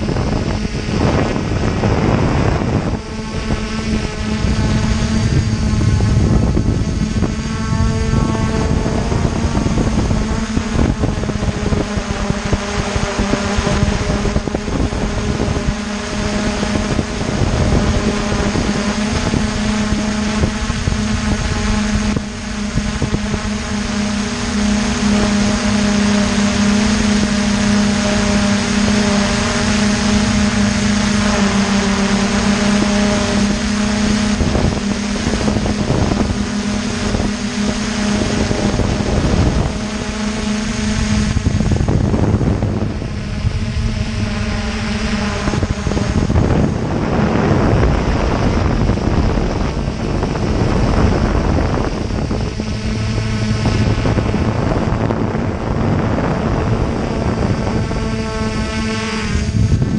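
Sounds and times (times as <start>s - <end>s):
drone propellers buzzing: 0.0s - 59.9s
wind gusting over microphone: 0.0s - 59.9s.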